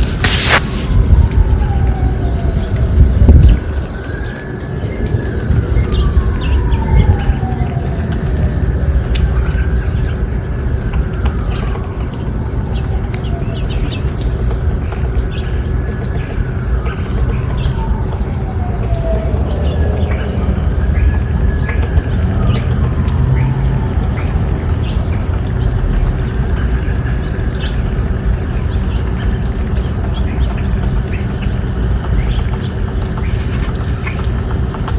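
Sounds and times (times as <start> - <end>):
siren wailing: 0.0 - 31.1
small birds chirping: 0.0 - 34.9.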